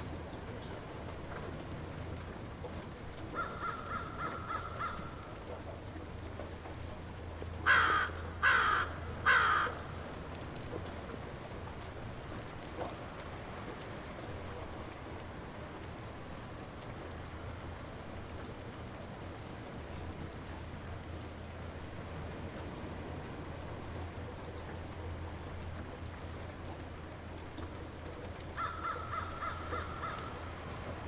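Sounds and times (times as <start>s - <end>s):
light rain falling: 0.0s - 31.0s.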